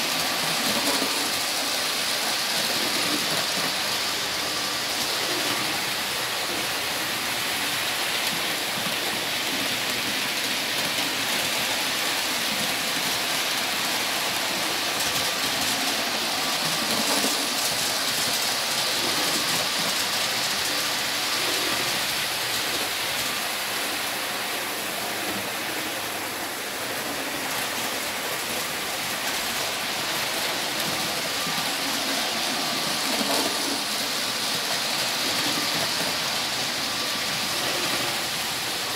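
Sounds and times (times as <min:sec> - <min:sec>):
model trains rattling on track: 0:00.0 - 0:38.9.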